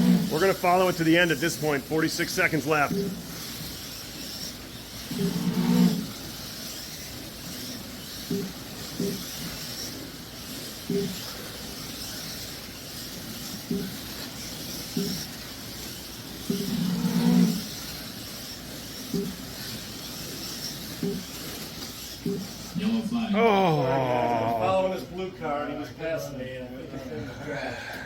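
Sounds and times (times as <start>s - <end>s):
slot car motors whirring: 0.0s - 24.8s.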